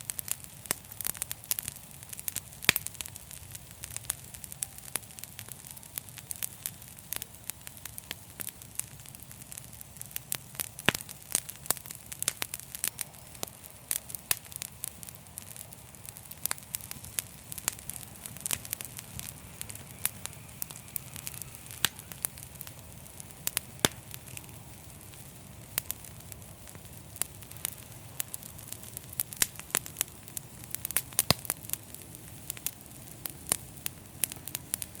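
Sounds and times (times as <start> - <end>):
fire popping and snapping: 0.0 - 35.0
log fire crackling: 0.0 - 35.0
low rumble of flames: 0.0 - 35.0.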